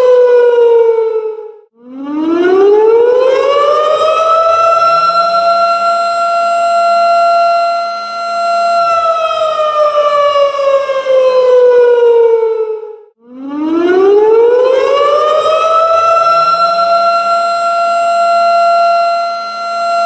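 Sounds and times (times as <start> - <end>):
tornado siren wailing: 0.0 - 20.0.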